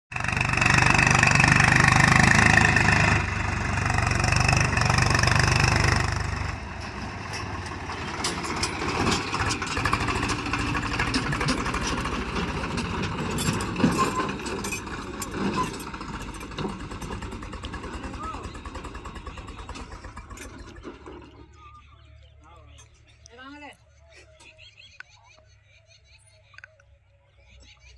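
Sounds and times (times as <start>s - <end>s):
vehicle engine running: 0.1s - 27.9s.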